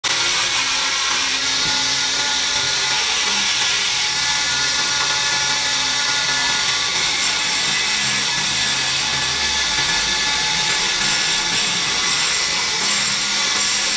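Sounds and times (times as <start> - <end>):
chisel shaving wood: 0.0 - 13.9
wood lathe whirring: 0.0 - 13.9.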